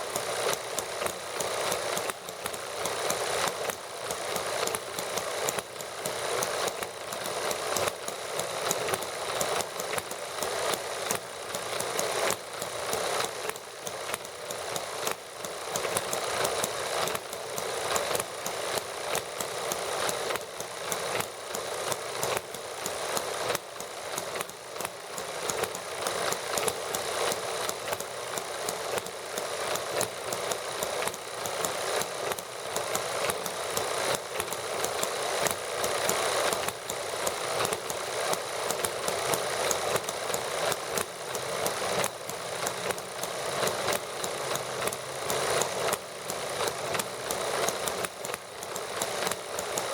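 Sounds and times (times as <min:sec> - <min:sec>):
model gasoline engines idling: 0:00.0 - 0:49.9.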